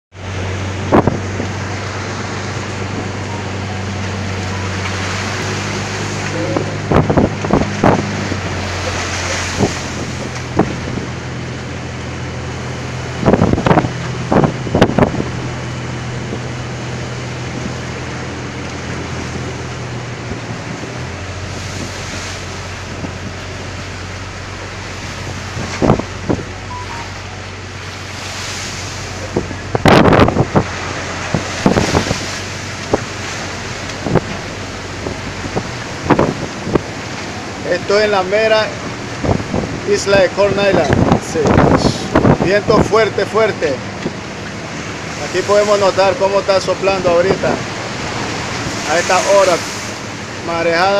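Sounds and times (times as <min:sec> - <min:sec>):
boat engine droning: 0:00.1 - 0:50.9
rough seas rushing: 0:00.1 - 0:50.9
wind buffeting microphone: 0:00.2 - 0:50.9.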